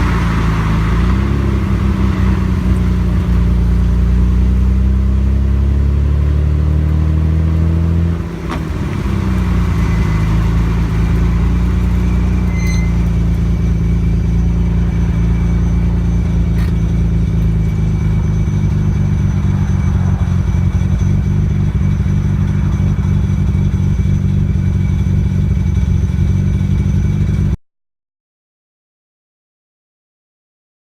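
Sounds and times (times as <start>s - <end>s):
car engine exhaust under load: 0.0s - 27.6s.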